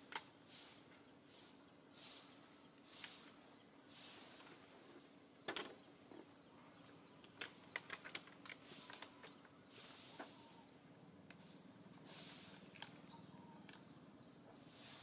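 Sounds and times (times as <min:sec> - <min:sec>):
soft hissing: 0:00.0 - 0:06.3, 0:08.6 - 0:15.0.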